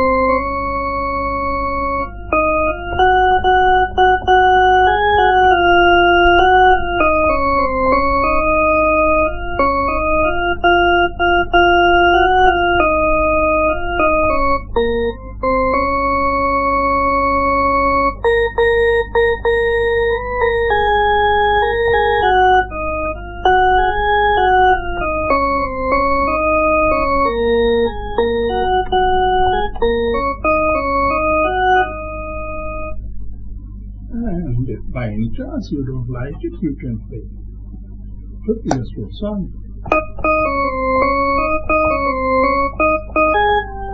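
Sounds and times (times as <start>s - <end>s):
organ-like keyboard melody: 0.0s - 43.9s
steady low hum: 0.0s - 43.9s.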